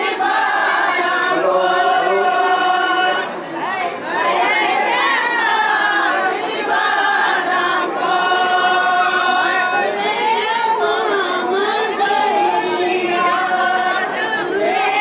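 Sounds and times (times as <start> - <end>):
women singing together: 0.0 - 15.0.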